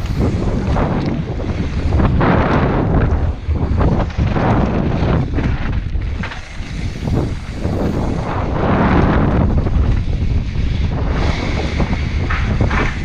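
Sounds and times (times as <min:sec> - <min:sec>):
bike knocks and rattles: 0:00.0 - 0:13.0
steady low rumble: 0:00.0 - 0:13.0
wind buffeting microphone: 0:00.0 - 0:13.0.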